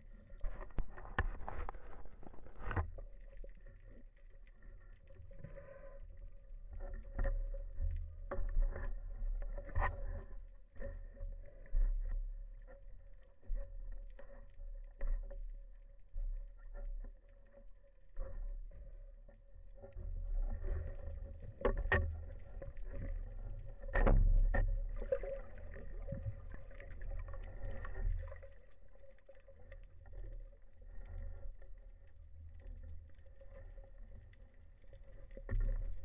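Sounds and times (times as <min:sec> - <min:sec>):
underwater rumble of moving water: 0:00.0 - 0:36.0.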